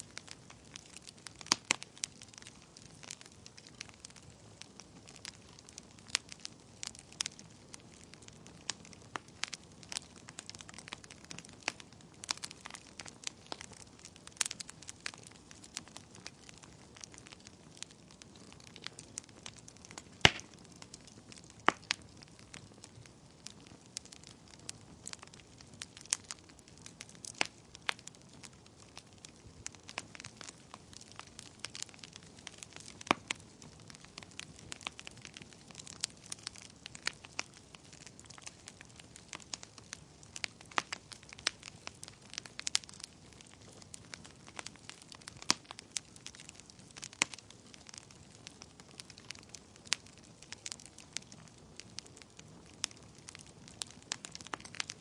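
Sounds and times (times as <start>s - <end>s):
burning wood popping: 0.0s - 55.0s
wood fire crackling: 0.0s - 55.0s.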